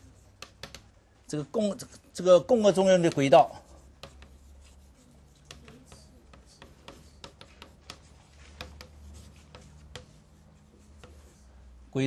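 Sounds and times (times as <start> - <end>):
chalk tapping on blackboard: 0.0 - 1.0, 2.6 - 11.5.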